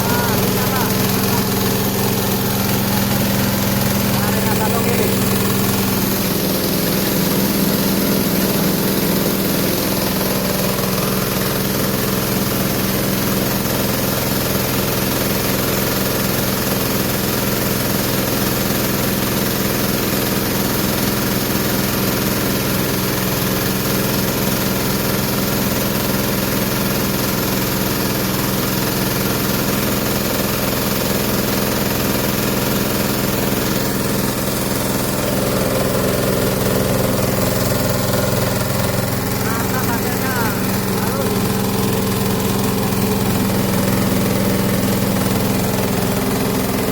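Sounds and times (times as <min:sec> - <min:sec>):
grinding mill humming: 0:00.0 - 0:46.9.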